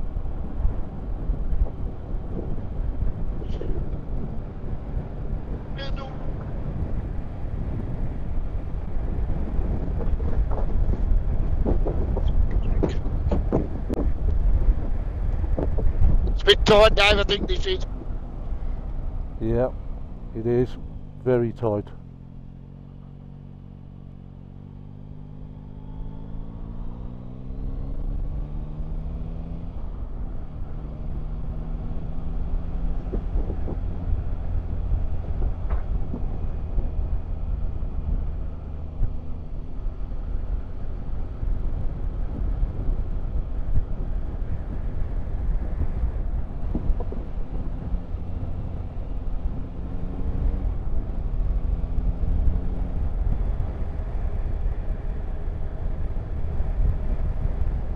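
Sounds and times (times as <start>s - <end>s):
wind rumble on microphone: 0.0s - 22.6s, 23.3s - 57.9s.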